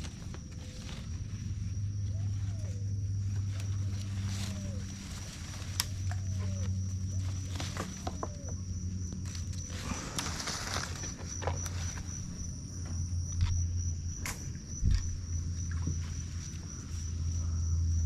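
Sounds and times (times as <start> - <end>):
high insect whine: 0.0 - 18.0
low droning animal chorus: 0.0 - 18.0.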